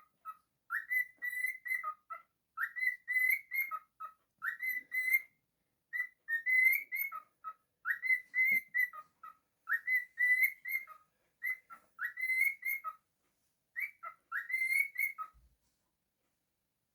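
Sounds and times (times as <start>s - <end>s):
cockatiel whistling: 0.2s - 5.3s, 5.9s - 13.0s, 13.8s - 15.3s.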